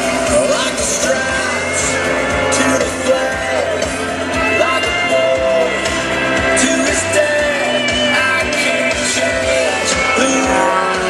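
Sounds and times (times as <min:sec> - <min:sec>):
pop-rock song over loudspeakers: 0:00.0 - 0:11.0.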